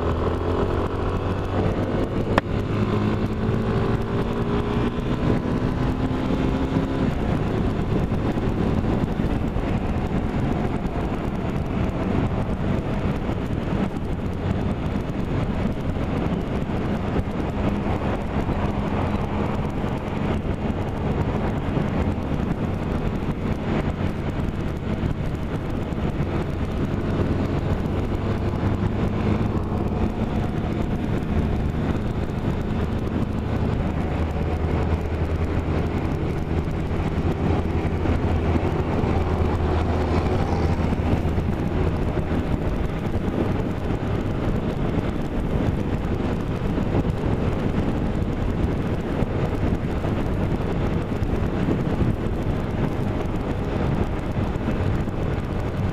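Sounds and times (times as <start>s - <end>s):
road noise: 0.0s - 55.9s
vehicle engine humming: 0.0s - 55.9s
wind noise on microphone: 0.0s - 55.9s.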